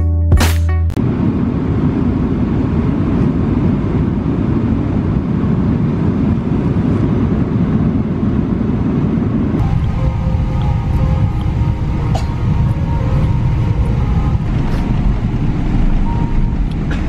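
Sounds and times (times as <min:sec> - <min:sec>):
airliner cabin drone: 0:00.9 - 0:17.0.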